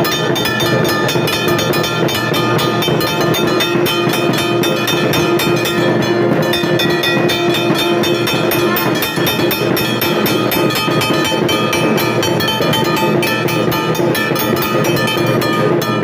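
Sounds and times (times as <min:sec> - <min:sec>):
temple bells ringing: 0:00.0 - 0:16.0.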